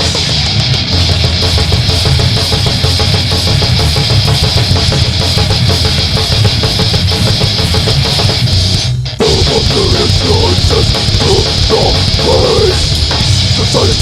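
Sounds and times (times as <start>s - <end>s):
distorted electric guitars: 0.0s - 14.0s
drum kit: 0.0s - 14.0s.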